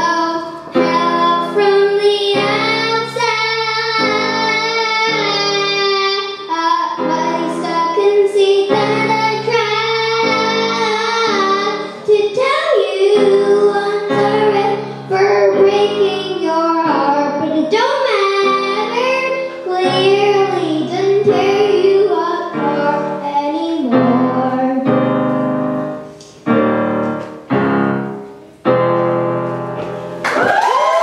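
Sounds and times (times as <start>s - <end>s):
boy singing into microphone: 0.0s - 25.0s
digital piano playing: 0.0s - 30.2s.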